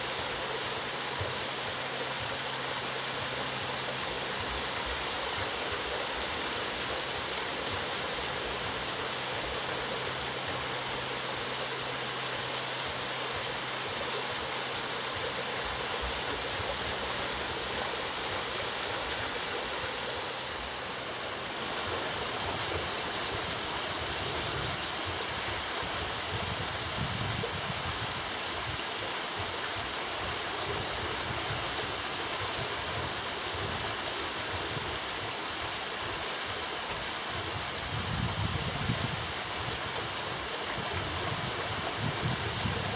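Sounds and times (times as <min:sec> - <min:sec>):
water splashing at a water wheel: 0:00.0 - 0:42.9.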